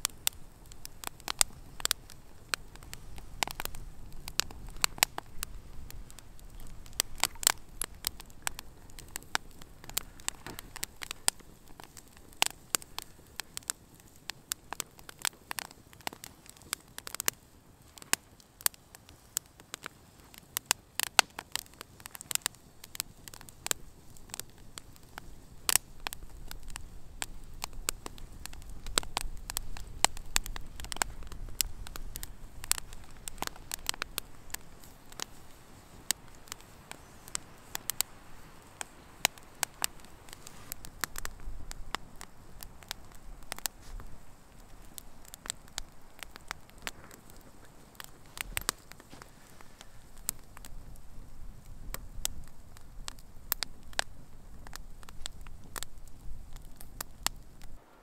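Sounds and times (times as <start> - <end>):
campfire crackling and popping: 0.0 - 57.9
low rumble of flames: 0.0 - 58.0.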